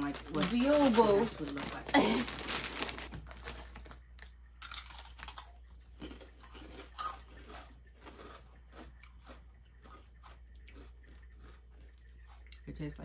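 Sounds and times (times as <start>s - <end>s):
crunching and chewing chips: 0.0s - 12.9s.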